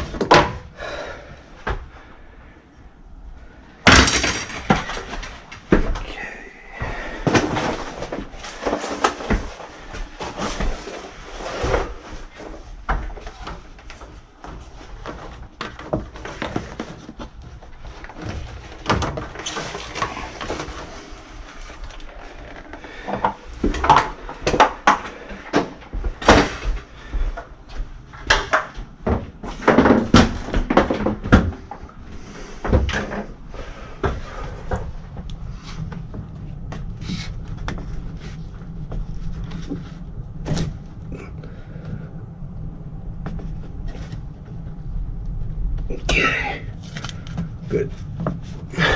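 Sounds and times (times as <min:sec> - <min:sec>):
tubing rustling: 0:04.6 - 0:24.5, 0:29.4 - 0:48.9.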